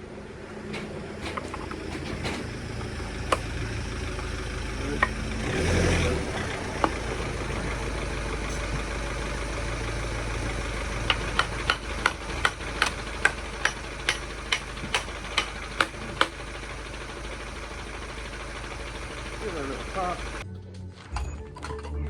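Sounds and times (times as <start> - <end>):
steady mechanical hum: 0.0 - 20.5.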